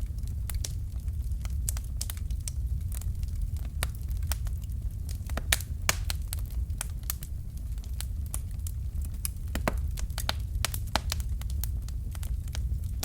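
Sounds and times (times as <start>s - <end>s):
fire crackling in fireplace: 0.0s - 13.0s.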